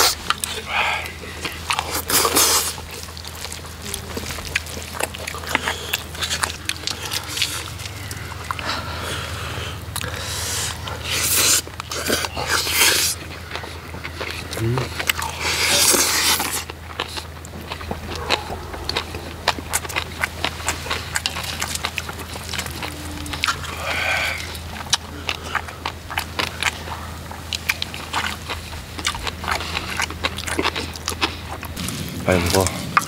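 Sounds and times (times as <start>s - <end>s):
slurping: 0.0s - 33.0s
steady low hum: 0.0s - 33.0s
wet chewing: 0.0s - 33.0s.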